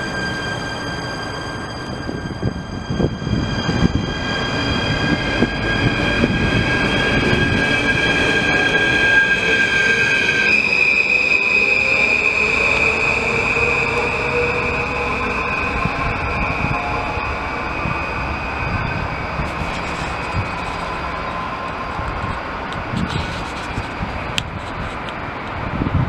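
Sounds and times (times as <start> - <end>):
high electric whine: 0.0 - 24.6.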